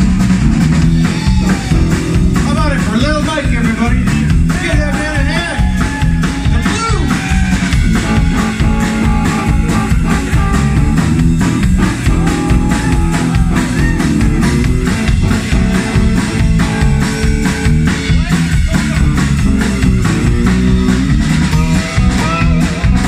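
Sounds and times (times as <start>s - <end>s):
bass guitar: 0.0s - 23.0s
drums: 0.0s - 23.0s
electric guitar bent notes: 0.0s - 23.0s.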